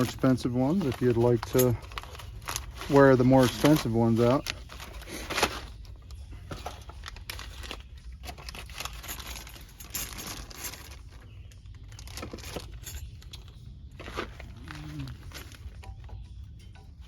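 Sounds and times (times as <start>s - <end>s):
packaging crinkling and rustling: 0.0s - 16.2s.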